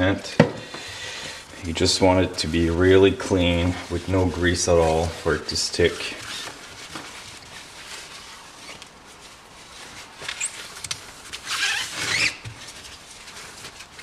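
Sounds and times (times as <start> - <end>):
cloth rag rubbing metal rim: 1.5 - 14.0.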